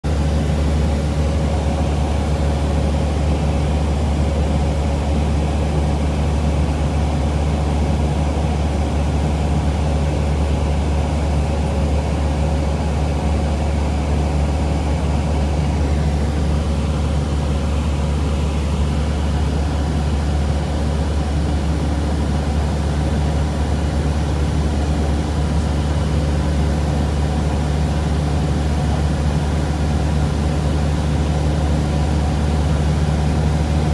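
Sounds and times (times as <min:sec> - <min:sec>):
airplane engine and propeller drone: 0:00.0 - 0:33.9.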